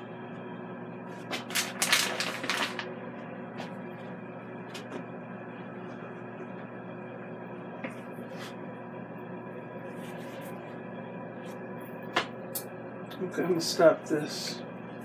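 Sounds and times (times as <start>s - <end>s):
air fryer fan humming: 0.0s - 15.0s.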